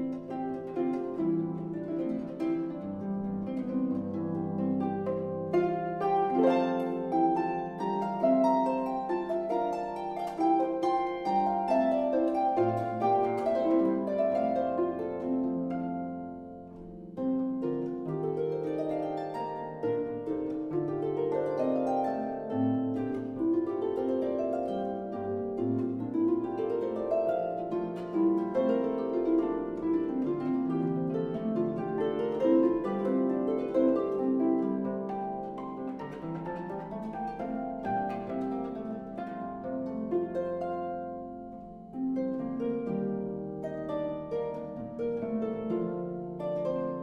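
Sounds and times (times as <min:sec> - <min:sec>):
harp playing: 0:00.0 - 0:47.0.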